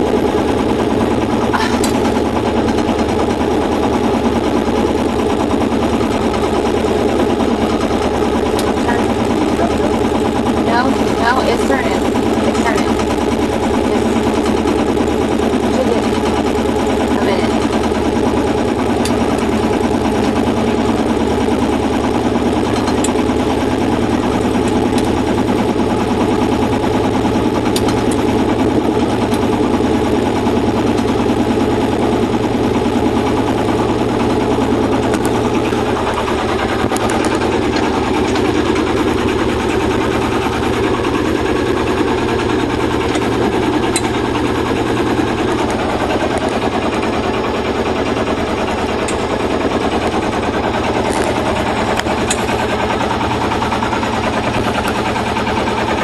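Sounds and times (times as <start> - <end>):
boat engine pulsing: 0.0 - 56.0.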